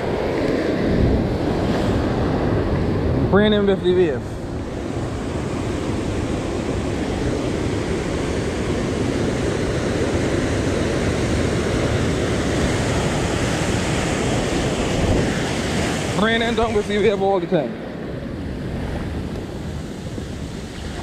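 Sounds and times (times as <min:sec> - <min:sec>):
surf washing over rocks: 0:00.0 - 0:21.0.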